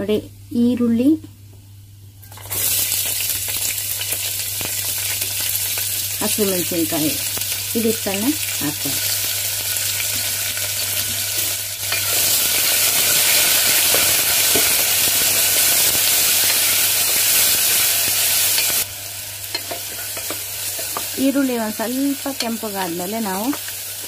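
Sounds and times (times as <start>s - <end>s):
onions sizzling in hot oil: 2.2s - 24.0s.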